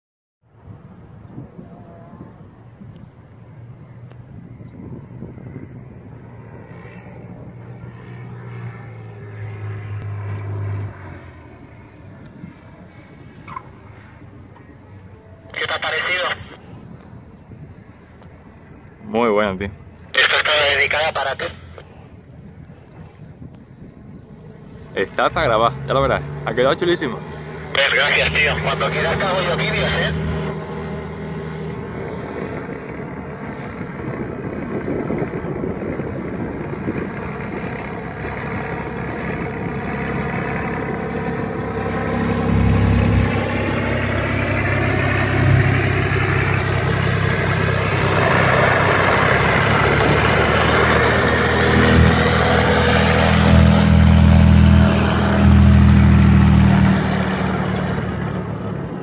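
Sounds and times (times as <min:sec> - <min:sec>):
propeller plane engine: 0:00.4 - 0:59.0.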